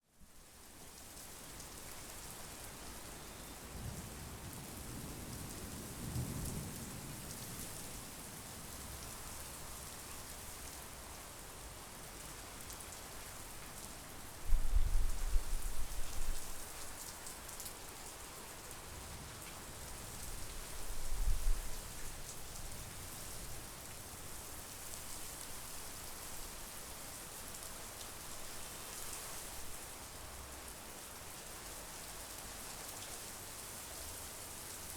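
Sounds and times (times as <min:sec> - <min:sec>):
rain falling: 0:00.3 - 0:34.9.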